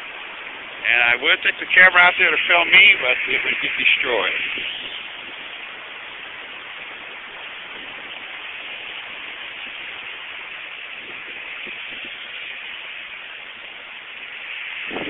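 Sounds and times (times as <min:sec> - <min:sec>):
waves washing on pebbly shore: 0:00.0 - 0:15.0.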